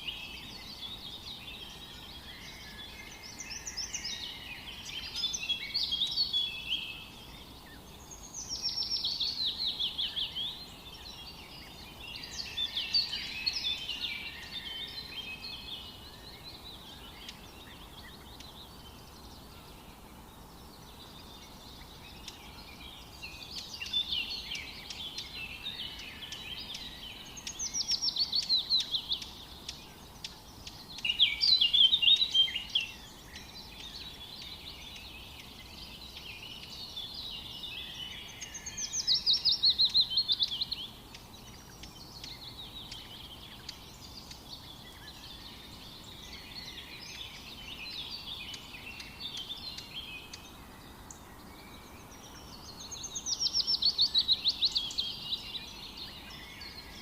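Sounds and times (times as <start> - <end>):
birds chattering calls: 0.0 - 57.0
loud songbird song: 0.0 - 57.0.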